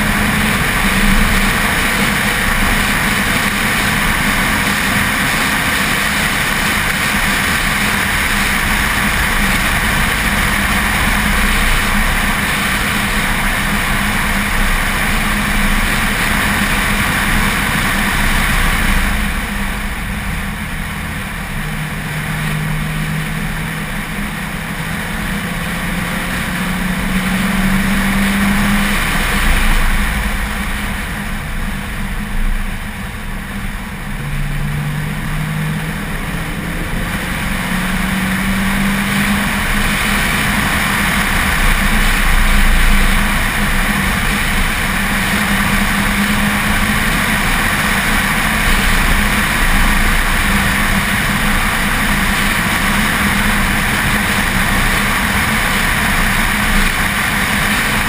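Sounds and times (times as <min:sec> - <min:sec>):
racing car engine: 0:00.0 - 0:58.0
wind and tyre noise: 0:00.0 - 0:58.0.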